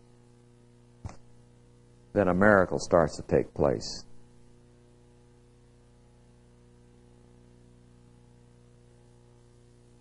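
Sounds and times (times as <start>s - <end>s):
faint electrical mains hum: 0.0s - 10.0s.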